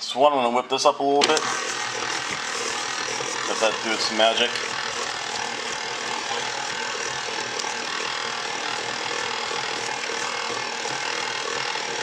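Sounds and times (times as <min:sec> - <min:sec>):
stand mixer churning batter: 0:01.2 - 0:12.0.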